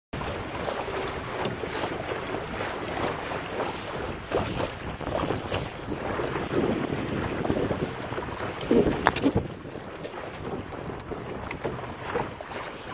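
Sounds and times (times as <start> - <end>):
water slapping against hull: 0.2 - 12.9
water splashes: 0.2 - 12.9
wind buffeting microphone: 0.2 - 12.9.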